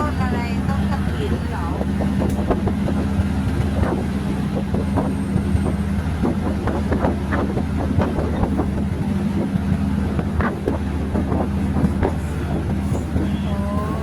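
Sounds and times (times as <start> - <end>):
diesel train engine drone: 0.0 - 14.0.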